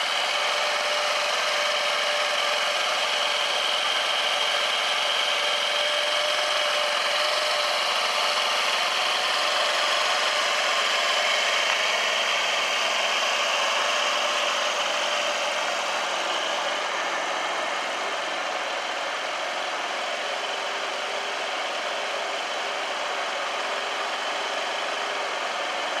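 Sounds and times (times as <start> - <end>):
scooter engine idling: 0.0 - 26.0.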